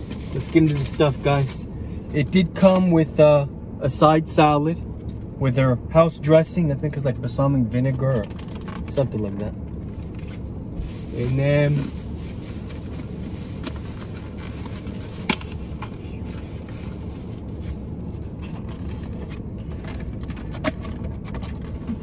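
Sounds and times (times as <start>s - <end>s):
low rumble inside car: 0.0s - 22.0s.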